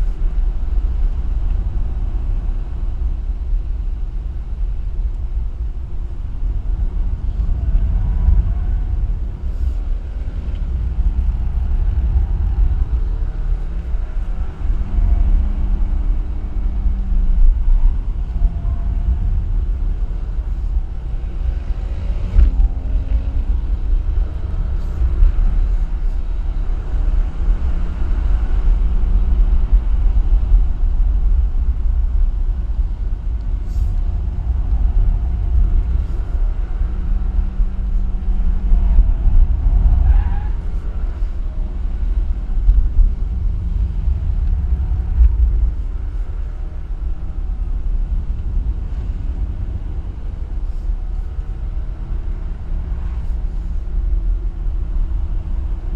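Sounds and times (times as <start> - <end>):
road and wind noise: 0.0 - 55.9.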